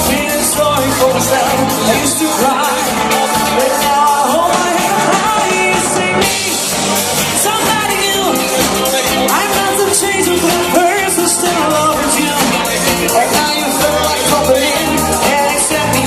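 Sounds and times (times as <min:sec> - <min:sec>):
person singing: 0:00.0 - 0:16.0
pop-rock music: 0:00.0 - 0:16.0.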